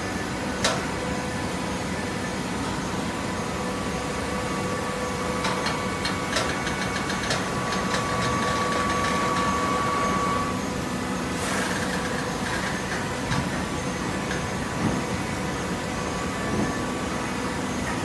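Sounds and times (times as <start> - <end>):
baler motor and pump hum: 0.0 - 18.0.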